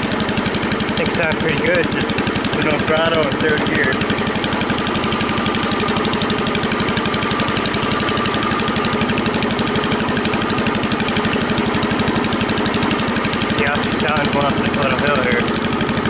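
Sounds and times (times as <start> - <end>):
garden tractor engine running: 0.0 - 16.0.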